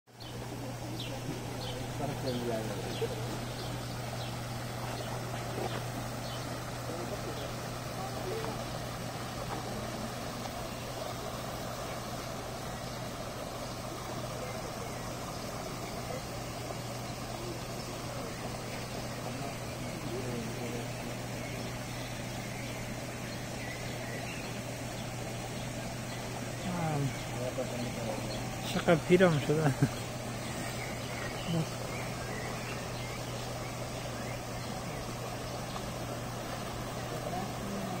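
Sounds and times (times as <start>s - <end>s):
constant low hum: 0.1s - 38.0s
faint distant voices talking: 0.1s - 38.0s.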